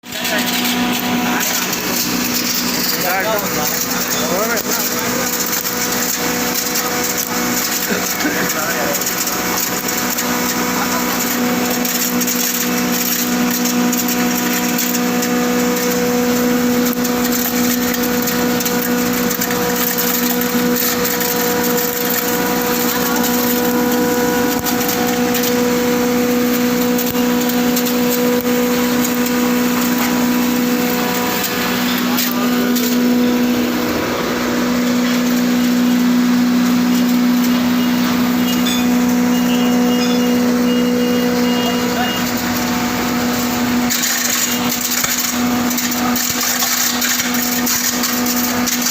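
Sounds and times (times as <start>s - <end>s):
wood chipper humming: 0.0s - 48.9s
wood crackling and cracking: 0.0s - 48.9s.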